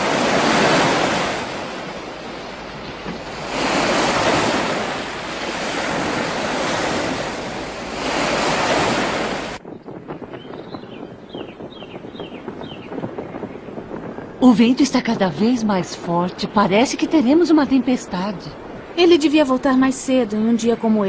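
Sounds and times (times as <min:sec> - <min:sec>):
storm wind gusting: 0:00.0 - 0:21.0.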